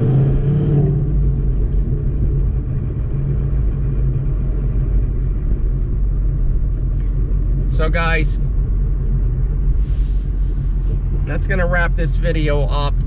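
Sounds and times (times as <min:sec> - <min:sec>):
car engine drone from inside cabin: 0:00.0 - 0:13.0
road rumble: 0:00.0 - 0:13.0.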